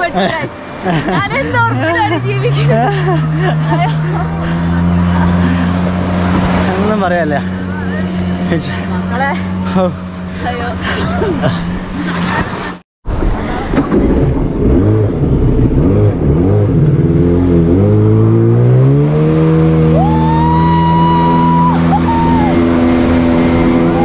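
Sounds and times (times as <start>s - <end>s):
jet ski engine: 0.0s - 24.0s.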